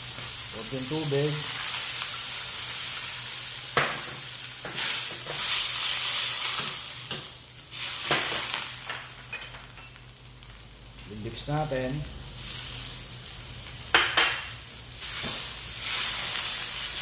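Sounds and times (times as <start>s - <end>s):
sauce sizzling in a wok: 0.0s - 17.0s.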